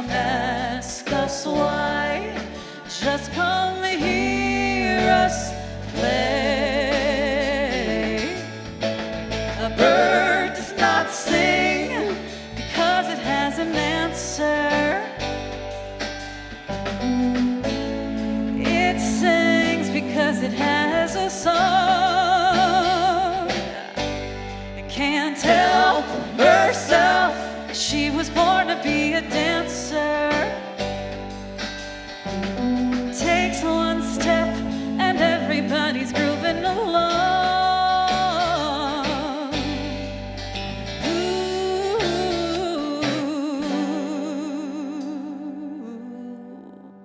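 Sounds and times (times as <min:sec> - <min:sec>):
person singing: 0:00.0 - 0:08.7, 0:09.6 - 0:15.4, 0:17.0 - 0:24.2, 0:24.8 - 0:30.9, 0:33.0 - 0:40.1, 0:40.8 - 0:47.0
live rock band playing: 0:00.0 - 0:45.2.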